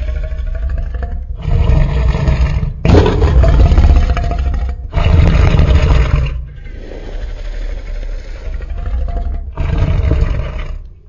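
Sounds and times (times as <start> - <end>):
deep dinosaur roars: 0.0 - 11.0
low rumble: 0.0 - 11.0.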